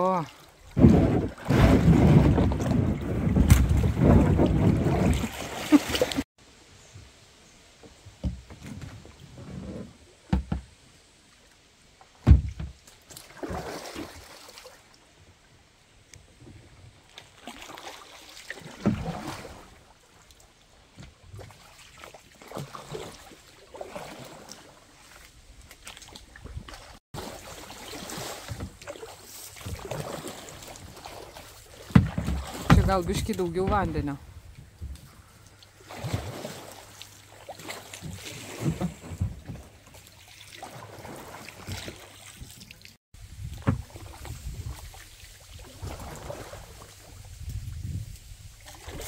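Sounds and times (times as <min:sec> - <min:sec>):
paddle splashing in water: 0:00.0 - 0:06.3, 0:12.0 - 0:15.0, 0:16.5 - 0:49.0.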